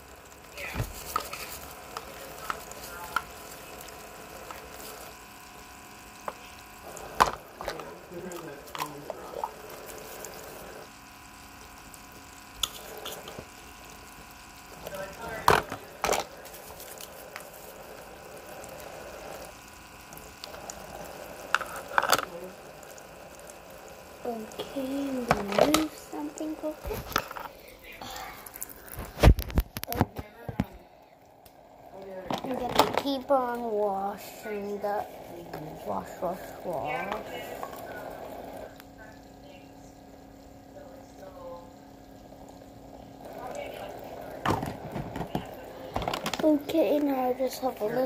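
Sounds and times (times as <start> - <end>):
tap water running into sink: 0.0 - 27.6, 31.4 - 38.9, 40.1 - 48.0.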